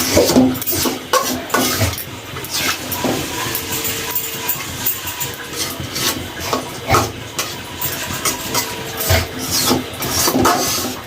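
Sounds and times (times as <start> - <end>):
metal spoon scraping a pot: 0.0 - 11.0.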